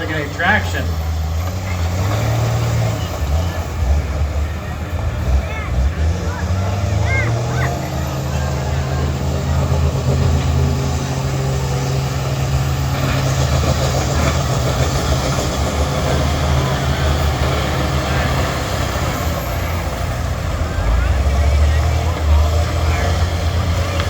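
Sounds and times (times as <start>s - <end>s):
bus engines running hard: 0.0s - 24.0s.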